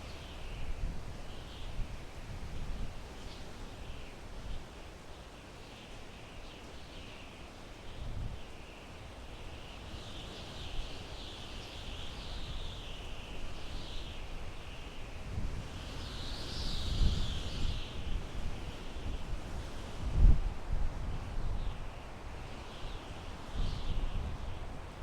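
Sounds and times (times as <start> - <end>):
wind through pine trees: 0.0 - 25.0.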